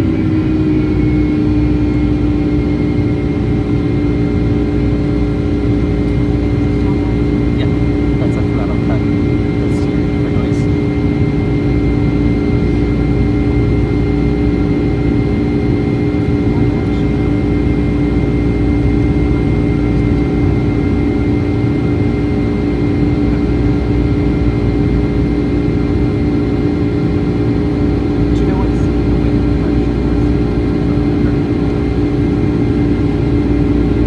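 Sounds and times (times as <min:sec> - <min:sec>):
jet engine roar in cabin: 0:00.0 - 0:34.0
steady droning hum: 0:00.0 - 0:34.0.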